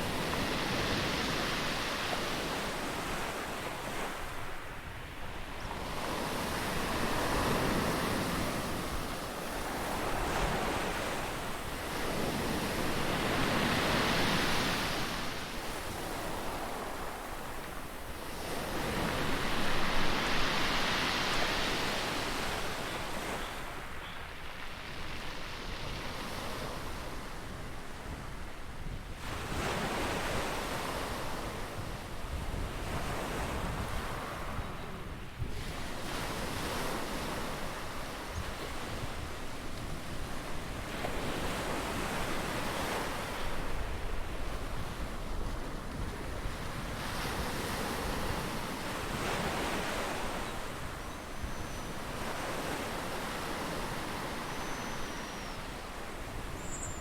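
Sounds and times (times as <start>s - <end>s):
ocean waves breaking on shore: 0.0s - 28.4s, 29.2s - 57.0s.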